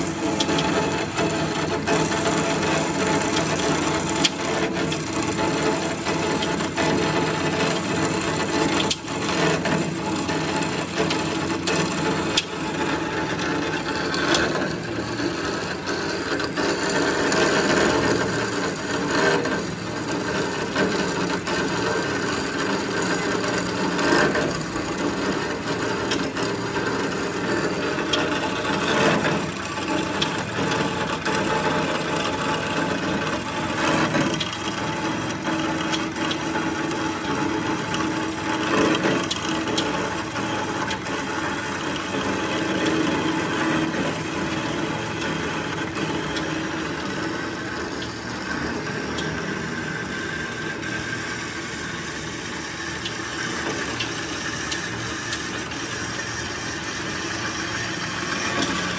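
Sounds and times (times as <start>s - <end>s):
band saw cutting metal: 0.0s - 58.9s
faint motor tone: 0.0s - 58.9s.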